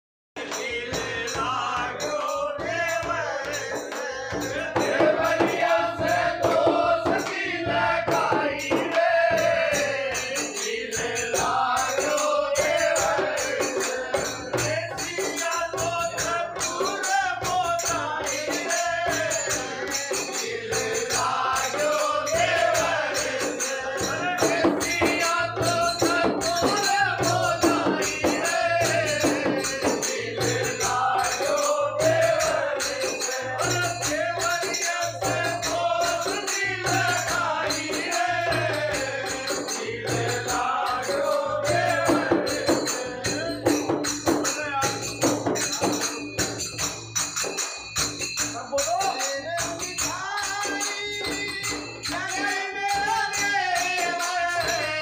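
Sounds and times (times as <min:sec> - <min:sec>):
men singing folk song: 0:00.4 - 0:46.0, 0:49.2 - 0:55.0
frame drum and barrel drum beat: 0:00.4 - 0:55.0.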